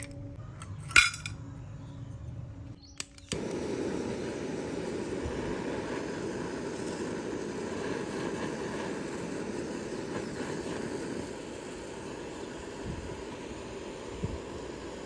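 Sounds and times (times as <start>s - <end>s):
gas torch burning: 2.8s - 15.0s.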